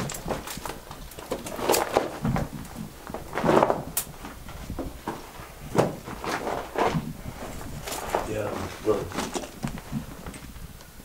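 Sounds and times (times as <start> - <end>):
footsteps on rock floor: 0.0 - 10.5.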